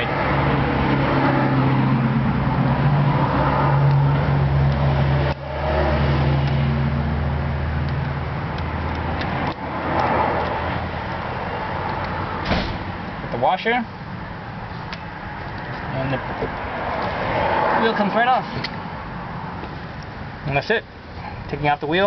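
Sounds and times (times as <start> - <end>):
engine hum: 0.0 - 21.6.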